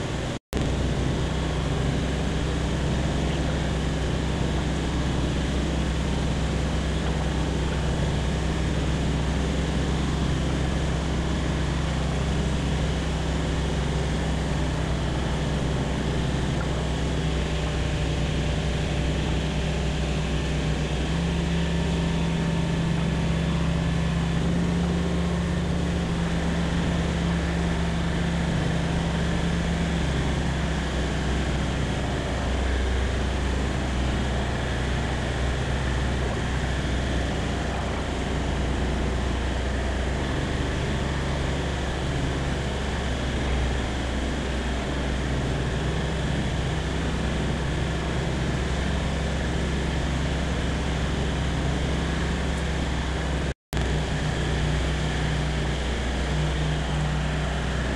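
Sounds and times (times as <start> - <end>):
light aircraft engine droning: 0.0 - 57.9.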